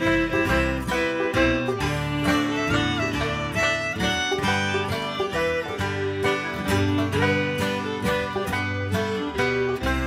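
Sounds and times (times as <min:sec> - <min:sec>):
banjo: 0:00.0 - 0:10.0
fiddle: 0:00.0 - 0:10.0
guitars strumming: 0:00.0 - 0:10.0.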